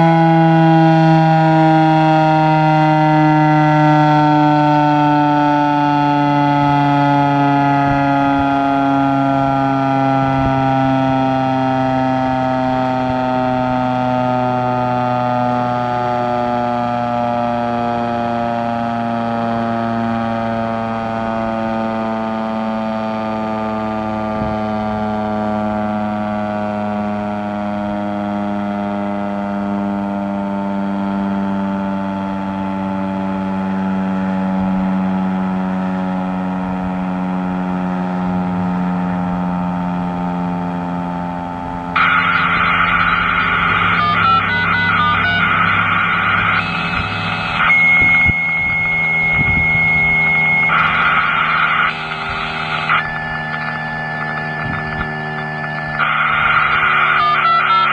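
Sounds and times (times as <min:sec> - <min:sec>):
fire siren winding down: 0:00.0 - 0:57.9.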